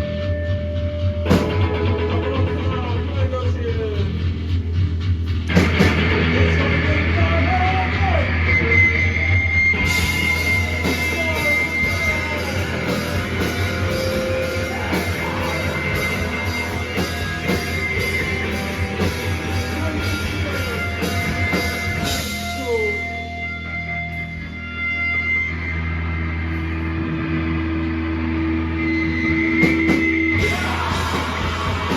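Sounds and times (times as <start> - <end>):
drum kit: 0.0 - 24.4, 29.1 - 31.9
bass guitar: 0.0 - 31.9
distorted electric guitars: 0.0 - 31.9.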